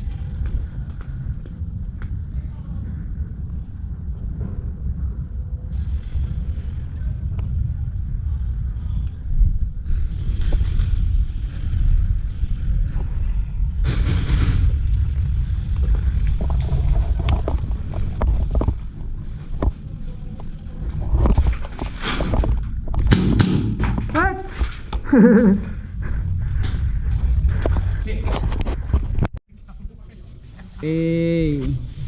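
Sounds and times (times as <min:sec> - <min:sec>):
wind rumble on microphone: 0:00.0 - 0:30.8.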